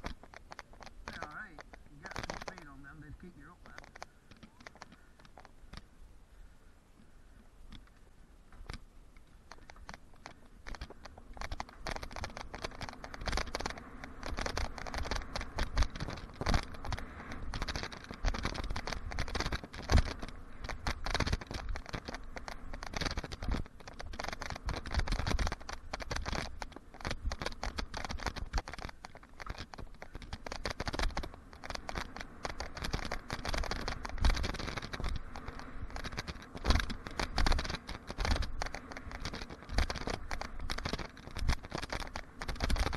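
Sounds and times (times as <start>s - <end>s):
bike rattling: 0.0s - 42.9s
bike tyres crunching on dirt: 0.0s - 42.9s.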